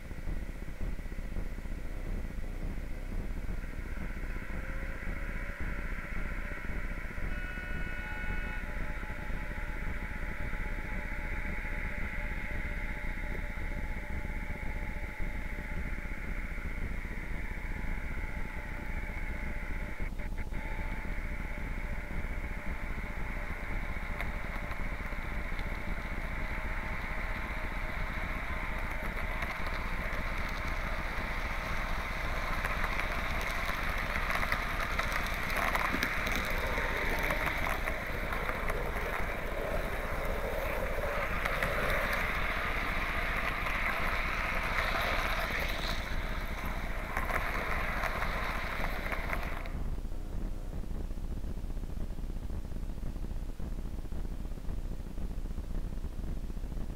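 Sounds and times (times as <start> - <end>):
model train rolling on rails: 0.0 - 20.0, 20.7 - 49.8.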